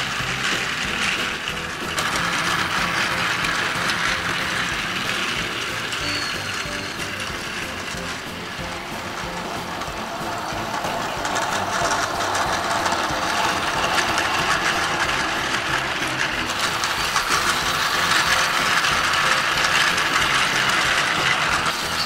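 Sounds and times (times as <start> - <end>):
toy train motor whirring: 0.0 - 22.0
wheels clicking rattle: 0.0 - 22.0.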